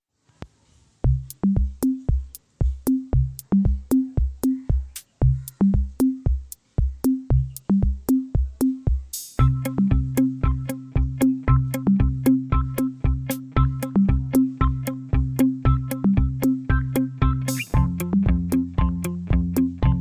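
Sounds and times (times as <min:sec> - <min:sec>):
electronic drum-machine beat: 0:01.0 - 0:20.0.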